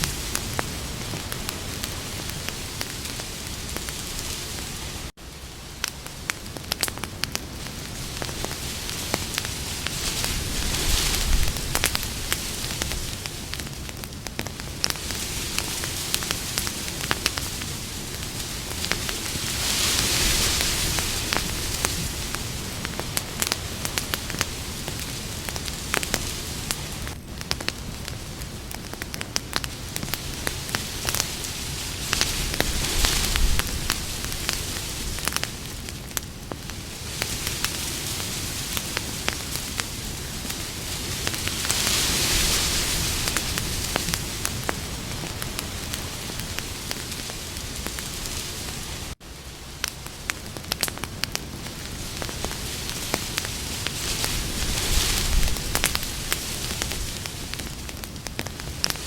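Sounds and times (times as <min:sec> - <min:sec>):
campfire crackling and popping: 0:00.0 - 0:59.0
steady fire hiss: 0:00.0 - 0:59.0.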